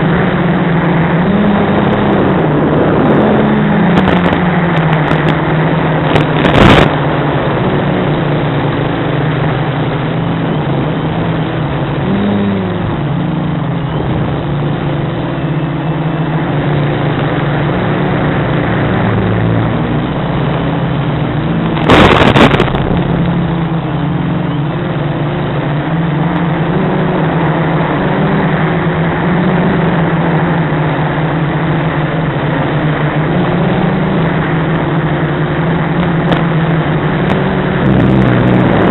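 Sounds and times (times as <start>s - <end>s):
crackling noise bursts: 0.0s - 38.9s
drone motors and propellers buzzing: 0.0s - 38.9s.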